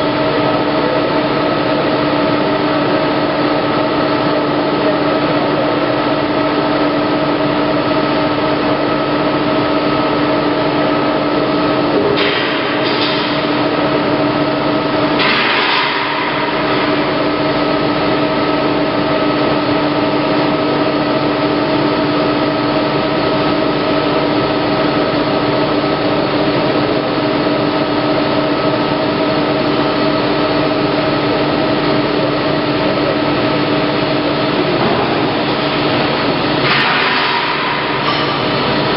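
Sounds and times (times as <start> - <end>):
rolling machine droning and whining: 0.0 - 38.9.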